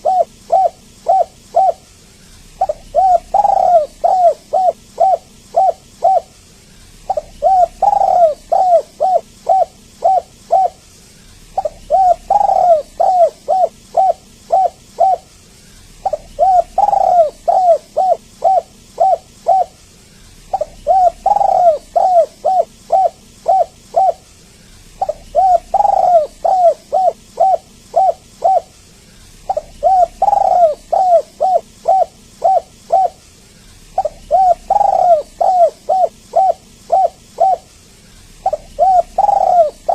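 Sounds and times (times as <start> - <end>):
dove cooing: 0.0 - 15.3, 15.9 - 37.7, 38.3 - 39.9.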